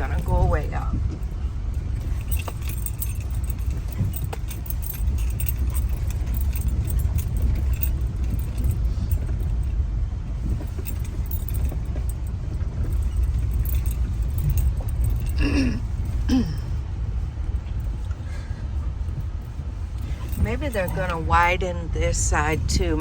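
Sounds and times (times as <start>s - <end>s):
car road and engine rumble: 0.0s - 23.0s
light jingling and rattling: 0.0s - 23.0s.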